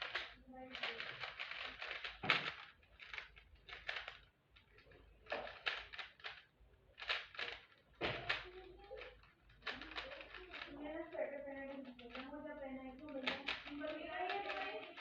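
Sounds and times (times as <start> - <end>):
plastic puzzle cube clacking: 0.0 - 15.0.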